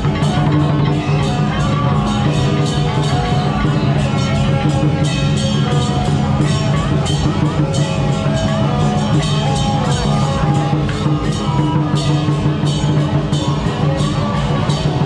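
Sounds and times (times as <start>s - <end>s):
loud music over loudspeakers: 0.0s - 15.0s.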